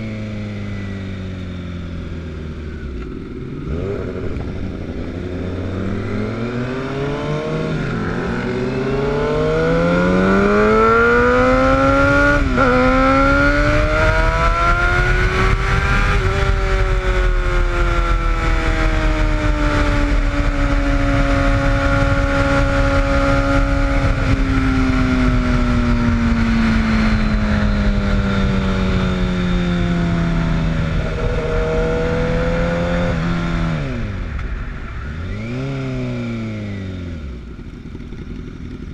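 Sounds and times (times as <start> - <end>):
motorcycle engine accelerating: 0.0 - 38.9
wind rumble on microphone: 2.8 - 38.9.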